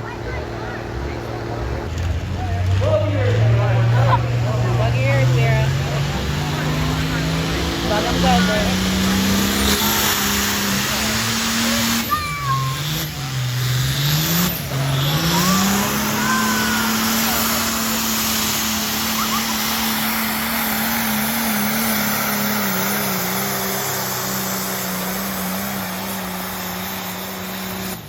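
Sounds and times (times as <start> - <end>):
pulling vehicle engine at high revs: 0.0 - 28.0.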